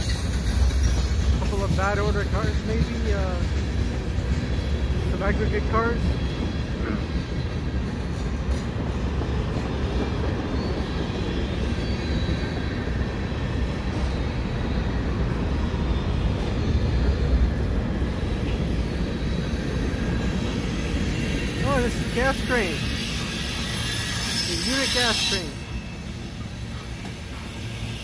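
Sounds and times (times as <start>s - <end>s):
steel wheels rumbling on rails: 0.0s - 28.0s.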